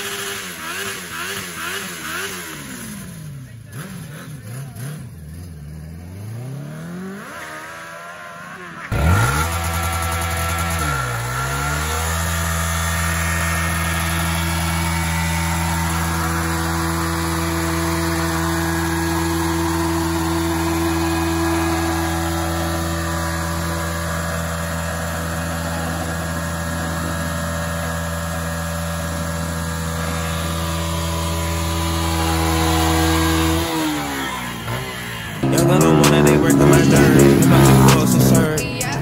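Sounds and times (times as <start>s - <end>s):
motorcycle engine revving: 0.0s - 39.0s
sport bike engine revving hard: 0.0s - 39.0s.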